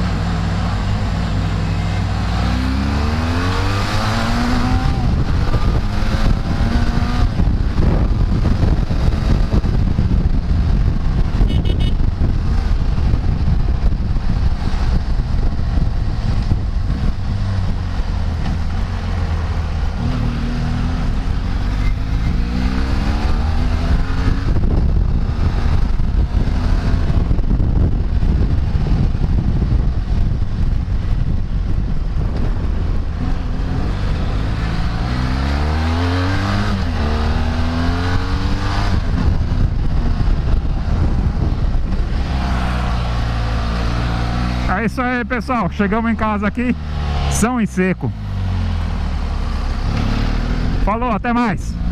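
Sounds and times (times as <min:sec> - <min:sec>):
wind rush on microphone: 0:00.0 - 0:45.3
vehicle engine shifting gears: 0:00.0 - 0:51.9.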